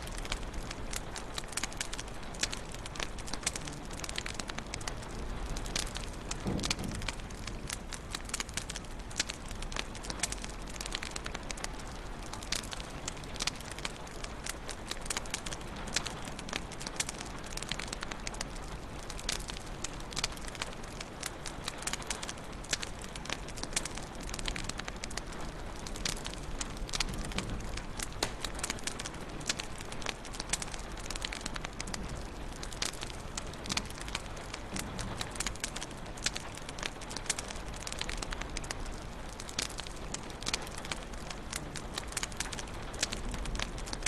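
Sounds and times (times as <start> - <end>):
low hiss of burning: 0.0 - 44.0
wood fire crackling and popping: 0.0 - 44.0.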